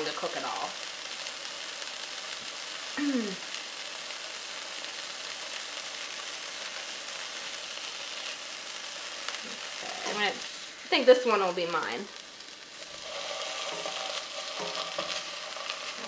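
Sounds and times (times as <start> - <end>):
fish sizzling in frying pan: 0.0 - 16.0.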